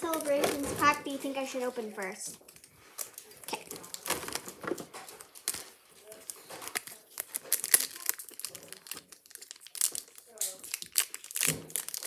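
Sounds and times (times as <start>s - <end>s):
foil wrapper crinkling: 1.3s - 12.0s.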